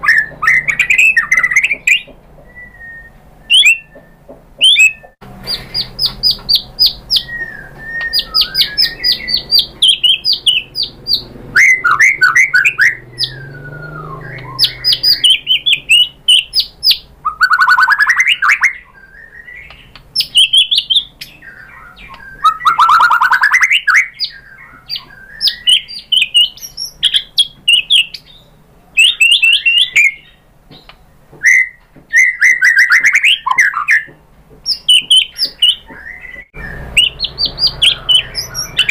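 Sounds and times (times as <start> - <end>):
songbird singing varied phrases: 0.0 - 38.9.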